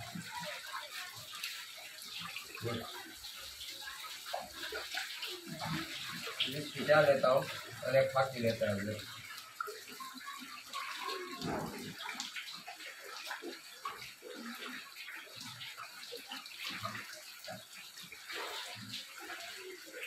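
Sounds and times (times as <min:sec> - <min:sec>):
wading through sloshing water: 0:00.0 - 0:20.0.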